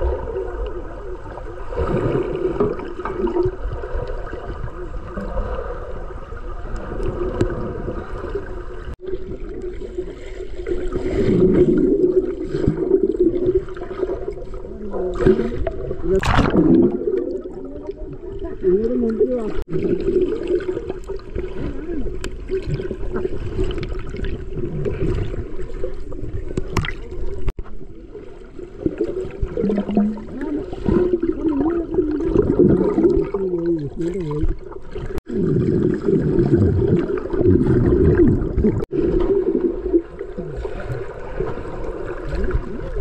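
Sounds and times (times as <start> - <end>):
running water: 0.0 - 43.0.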